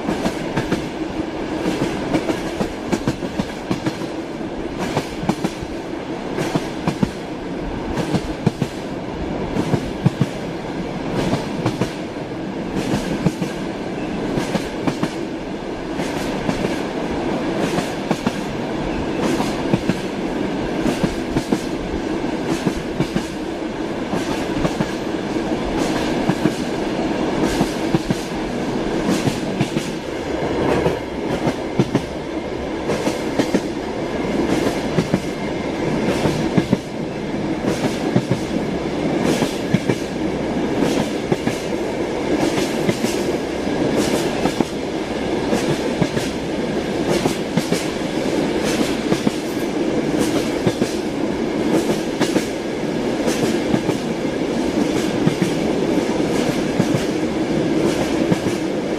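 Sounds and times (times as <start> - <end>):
train wheels clattering on rails: 0.0 - 58.9.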